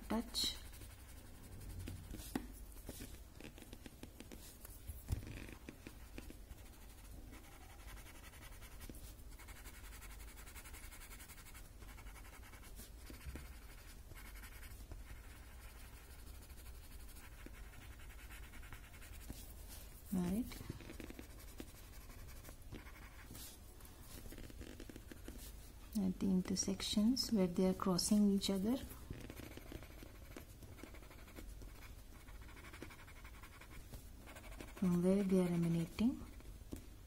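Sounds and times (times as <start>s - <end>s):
pencil scratching on paper: 0.0s - 25.6s, 28.1s - 36.5s.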